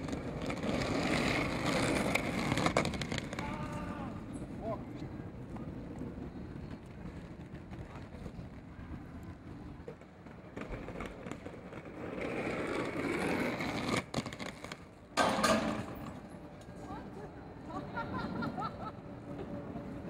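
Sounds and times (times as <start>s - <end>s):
low street rumble: 0.0s - 20.0s
skate wheels rolling on concrete: 0.0s - 20.0s.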